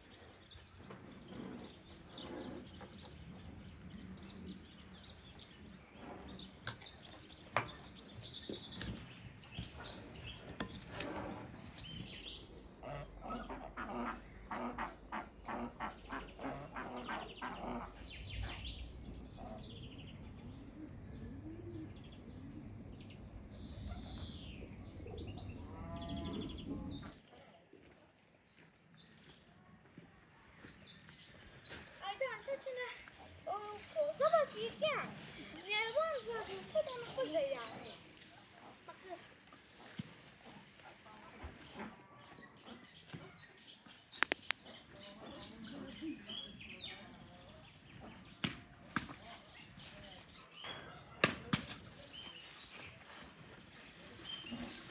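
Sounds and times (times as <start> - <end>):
birds chirping and calling: 0.0 - 27.3, 30.6 - 54.9.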